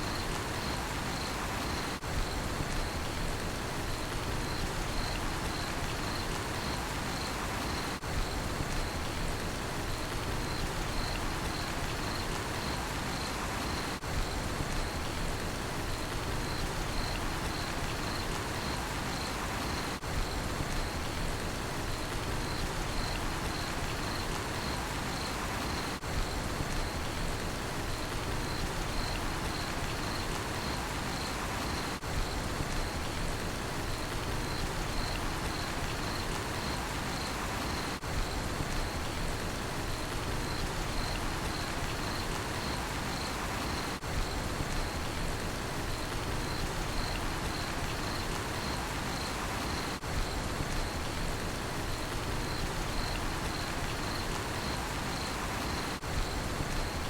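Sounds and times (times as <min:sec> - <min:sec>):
cricket chirping: 0:00.0 - 0:03.2, 0:03.8 - 0:09.2, 0:09.8 - 0:15.2, 0:15.9 - 0:21.2, 0:21.9 - 0:27.2, 0:27.9 - 0:33.2, 0:33.8 - 0:39.2, 0:39.8 - 0:57.0
steady rain falling: 0:00.0 - 0:57.0.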